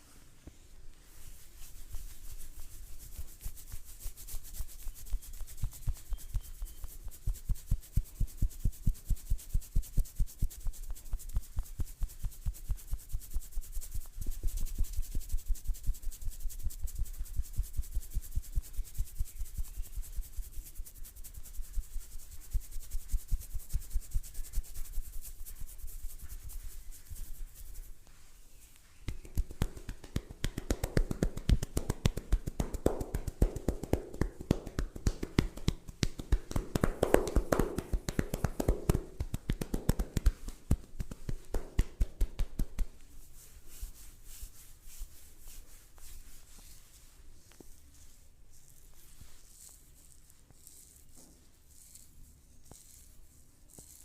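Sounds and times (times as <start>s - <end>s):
hands rubbing skin in massage: 0.0s - 54.0s.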